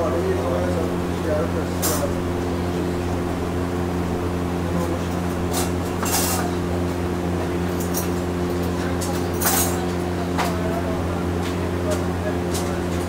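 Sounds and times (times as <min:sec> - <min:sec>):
appliance hum: 0:00.0 - 0:13.0.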